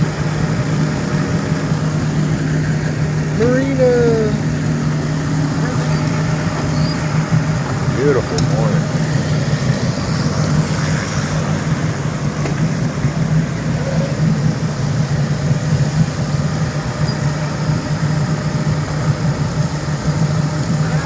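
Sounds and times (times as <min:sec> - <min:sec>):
boat engines droning: 0:00.0 - 0:21.0.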